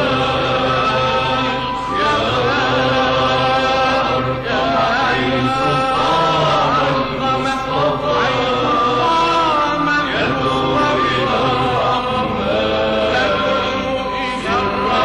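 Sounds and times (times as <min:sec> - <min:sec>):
man chanting devotional song: 0:00.0 - 0:15.0.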